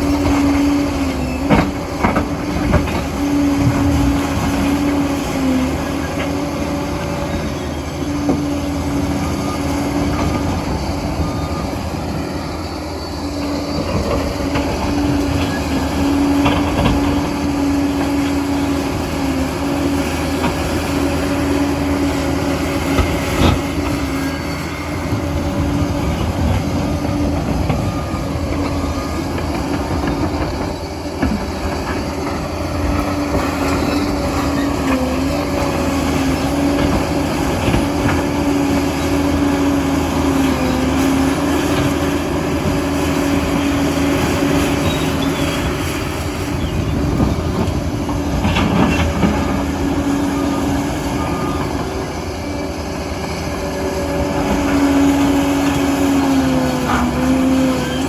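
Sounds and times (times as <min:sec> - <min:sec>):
dozer diesel engine droning: 0:00.0 - 0:58.0
track clatter: 0:00.0 - 0:58.0.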